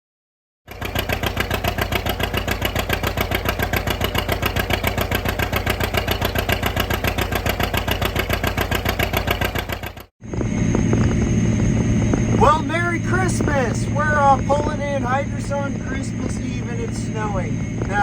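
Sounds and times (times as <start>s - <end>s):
tractor diesel engine running: 0.7s - 18.0s.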